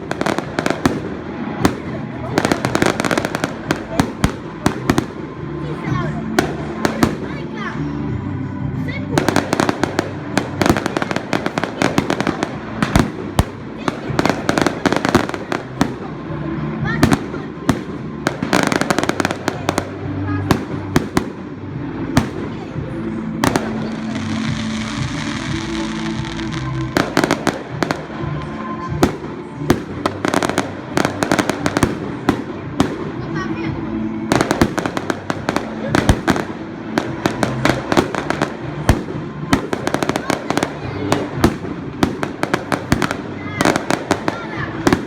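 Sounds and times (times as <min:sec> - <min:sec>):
fireworks bangs: 0:00.0 - 0:07.6, 0:09.1 - 0:45.0
music: 0:00.0 - 0:45.0.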